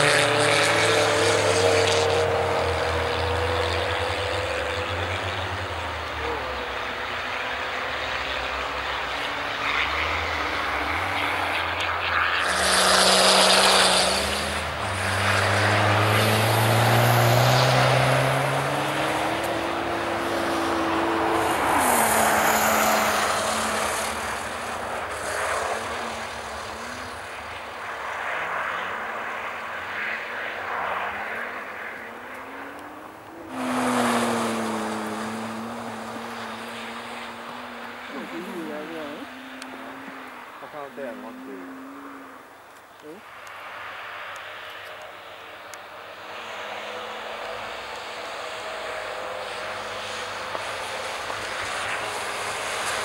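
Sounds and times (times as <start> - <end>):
car engine revving: 0.0 - 43.3, 44.3 - 53.0.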